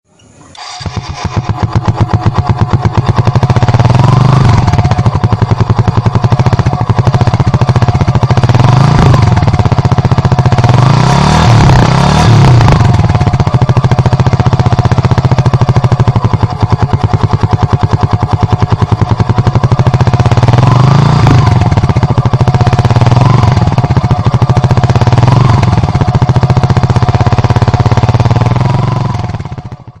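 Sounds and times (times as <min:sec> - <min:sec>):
motorcycle engine revving: 0:00.2 - 0:30.0.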